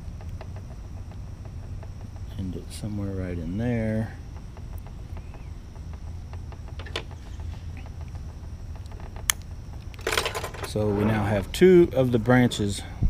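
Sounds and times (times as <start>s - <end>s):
wire and tools clicking: 0.0s - 12.8s
low steady hum: 0.0s - 13.0s.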